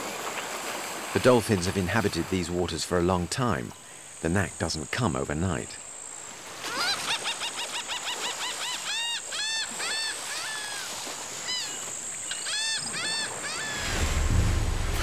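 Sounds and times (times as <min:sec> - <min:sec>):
rush of water: 0:00.0 - 0:04.9, 0:06.1 - 0:15.0
high insect drone: 0:01.2 - 0:15.0.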